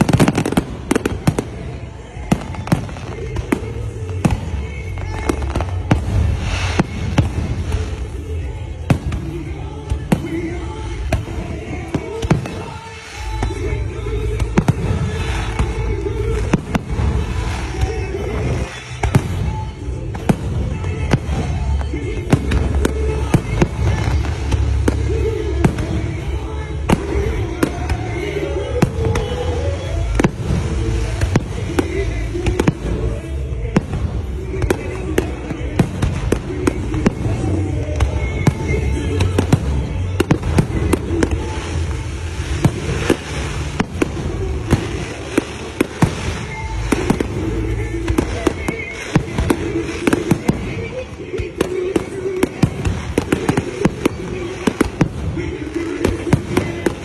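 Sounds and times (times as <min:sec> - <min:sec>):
continuous noisy wash: 0:00.0 - 0:57.0
fireworks bangs: 0:00.0 - 0:57.0.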